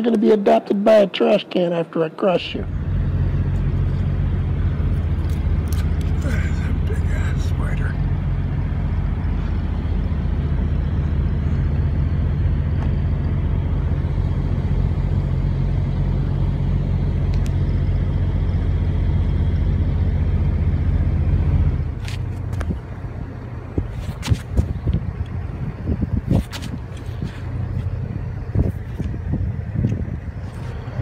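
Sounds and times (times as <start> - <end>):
diesel truck engines idling: 0.0 - 31.0.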